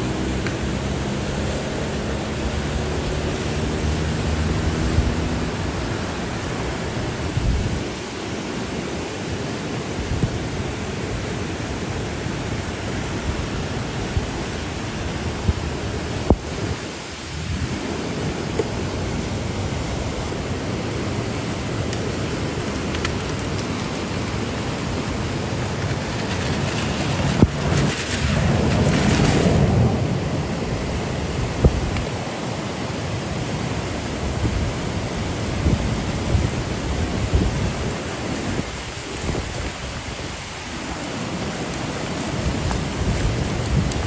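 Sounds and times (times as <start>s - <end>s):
floodwater rushing roar: 0.0s - 44.0s.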